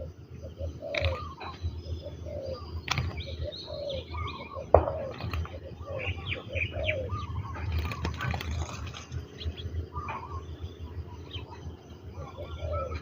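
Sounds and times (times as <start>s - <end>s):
doves cooing: 0.0s - 13.0s
small birds chirping: 0.0s - 13.0s.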